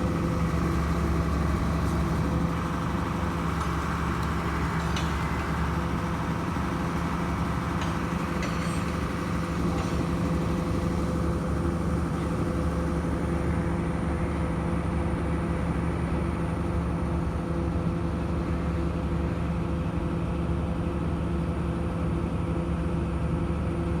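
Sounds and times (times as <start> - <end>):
heavy machinery engine running: 0.0 - 19.7.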